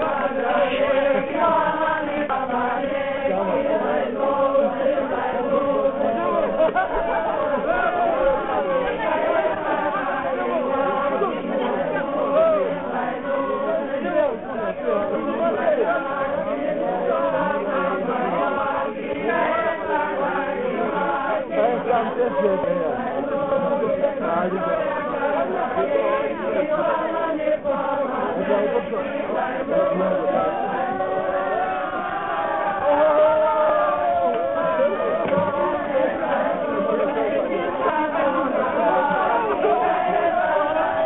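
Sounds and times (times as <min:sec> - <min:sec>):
voices chanting long notes: 0:00.0 - 0:41.0.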